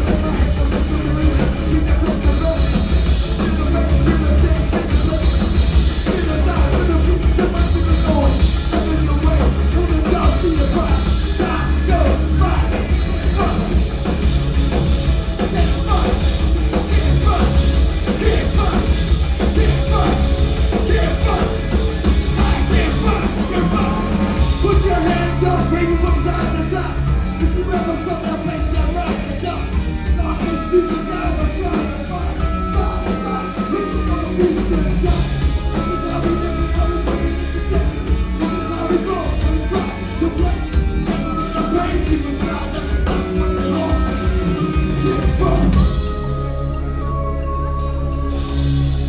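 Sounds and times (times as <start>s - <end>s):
rock music with singing: 0.0s - 49.0s.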